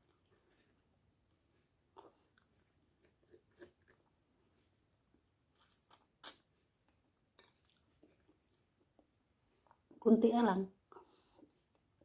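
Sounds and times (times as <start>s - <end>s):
soft chewing: 0.0s - 10.0s, 10.8s - 12.0s.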